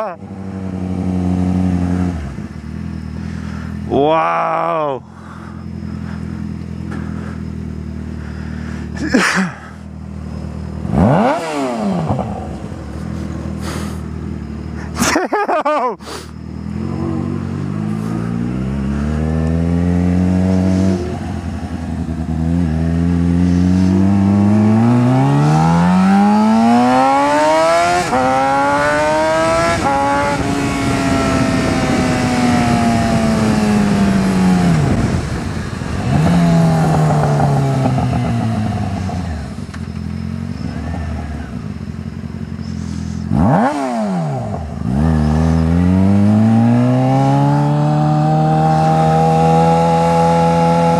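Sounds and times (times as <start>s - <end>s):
motorcycle accelerating through gears: 0.0s - 4.0s, 5.3s - 15.0s, 16.2s - 50.9s
motorcycle passing close: 0.0s - 4.0s, 5.3s - 15.1s, 16.4s - 50.9s.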